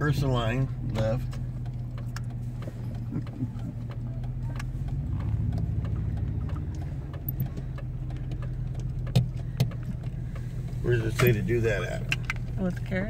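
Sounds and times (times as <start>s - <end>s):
car engine running: 0.0s - 13.0s
light ticks and clicks: 0.2s - 13.0s.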